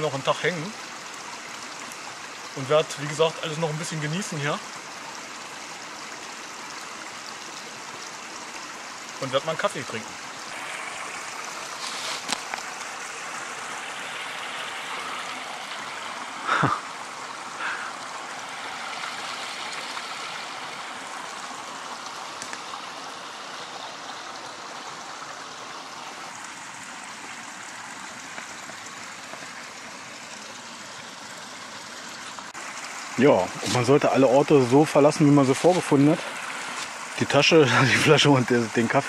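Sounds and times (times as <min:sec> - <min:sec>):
stream flowing: 0:00.0 - 0:39.0.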